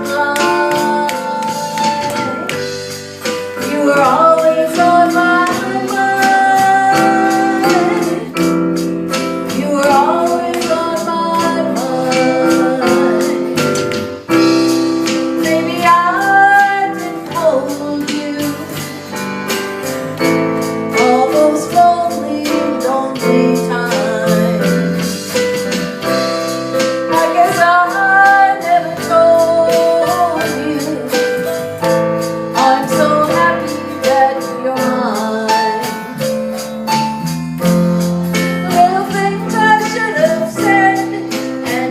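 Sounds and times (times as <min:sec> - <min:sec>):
woman singing: 0:00.0 - 0:19.6, 0:20.9 - 0:25.4, 0:27.1 - 0:31.6, 0:32.5 - 0:36.3, 0:38.4 - 0:41.9
small band playing: 0:00.0 - 0:41.9.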